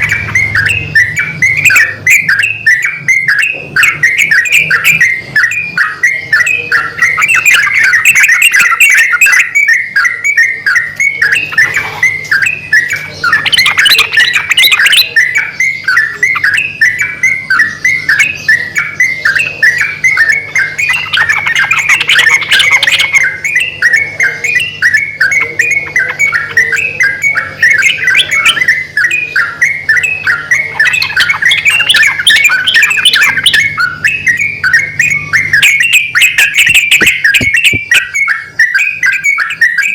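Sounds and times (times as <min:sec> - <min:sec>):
bulbuls chattering: 0:00.0 - 0:39.9.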